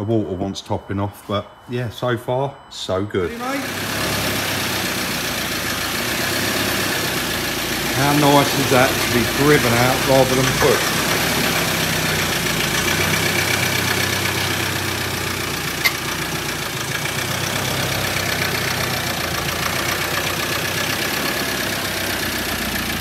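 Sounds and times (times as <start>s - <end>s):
diesel engine running at low revs: 3.3s - 23.0s.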